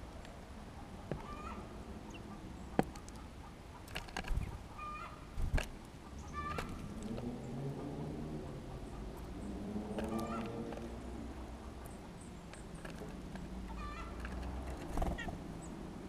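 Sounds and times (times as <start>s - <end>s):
birds chirping: 0.6s - 16.0s
birds pecking on feeder: 2.1s - 15.8s.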